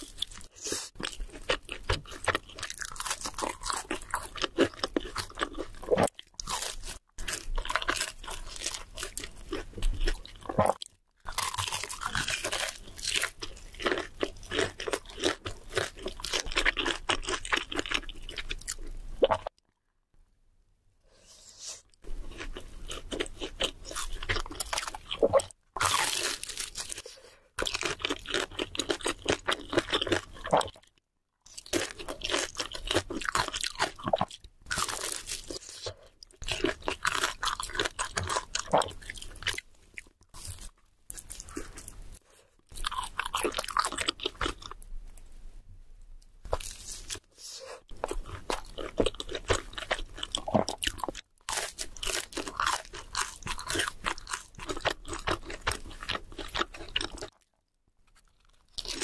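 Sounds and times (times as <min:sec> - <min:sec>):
crunching fried food: 0:00.0 - 0:19.9, 0:21.8 - 0:45.2, 0:46.4 - 0:59.0.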